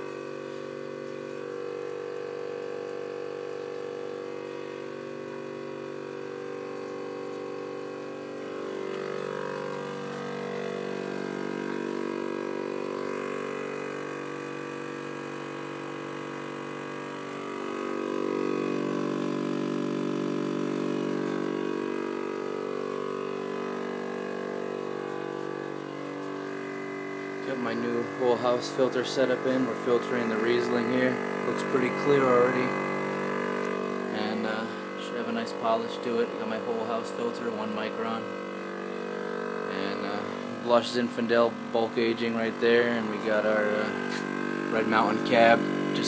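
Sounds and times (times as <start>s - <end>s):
vacuum pump motor hum: 0.0s - 46.0s.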